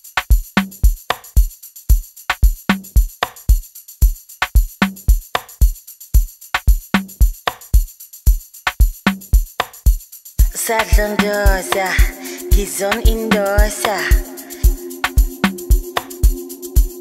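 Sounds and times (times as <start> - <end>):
drum-machine beat: 0.0 - 17.0
high percussion layer: 0.0 - 17.0.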